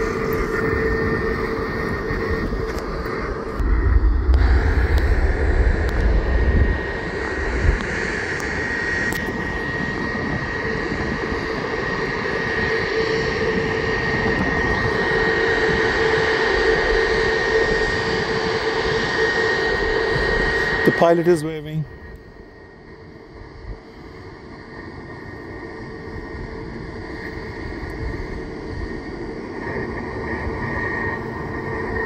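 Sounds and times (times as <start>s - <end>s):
jet engines running: 0.0s - 32.0s.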